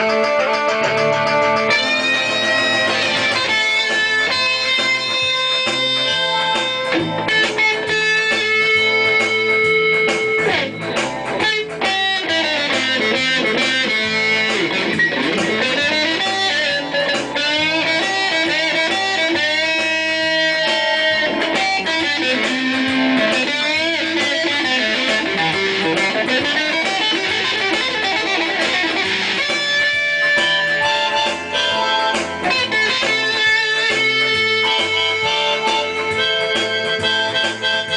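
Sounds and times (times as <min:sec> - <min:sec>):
electric guitar lead with bends: 0:00.0 - 0:37.9.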